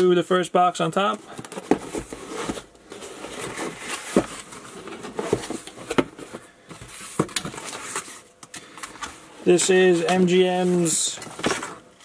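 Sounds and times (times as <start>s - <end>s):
packaging rustling and crinkling: 1.2s - 9.3s, 10.0s - 12.0s.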